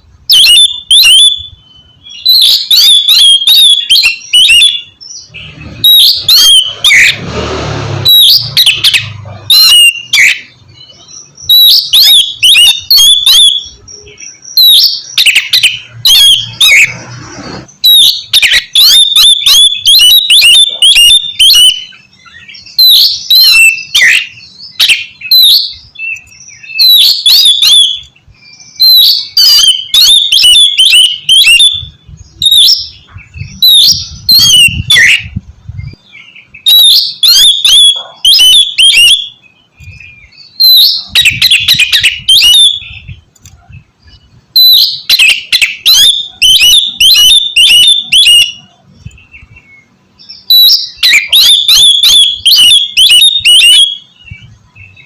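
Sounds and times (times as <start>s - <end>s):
bird singing whistles and chatter: 0.3s - 55.0s.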